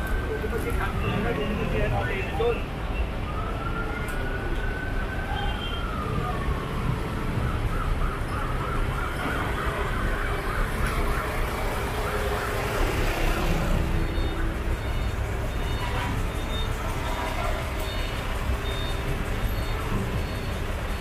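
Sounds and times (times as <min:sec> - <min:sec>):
fire truck siren: 0:00.0 - 0:21.0
low street rumble: 0:00.0 - 0:21.0.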